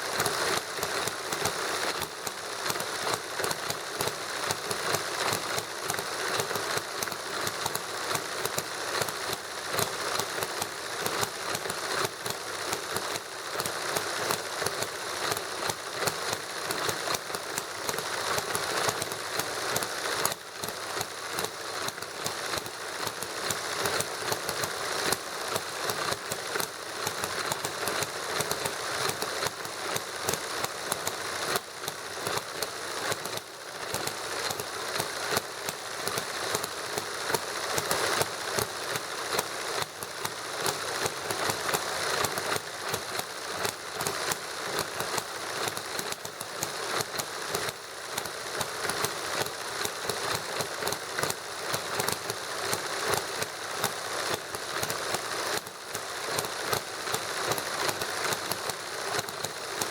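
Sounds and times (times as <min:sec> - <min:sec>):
small engine rapid pops: 0:00.0 - 0:59.9
mechanical clatter: 0:00.1 - 0:59.9.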